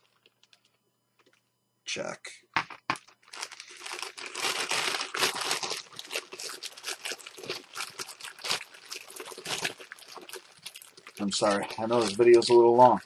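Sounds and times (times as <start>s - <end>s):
plastic packaging crinkling: 0.0s - 1.4s, 2.6s - 13.0s.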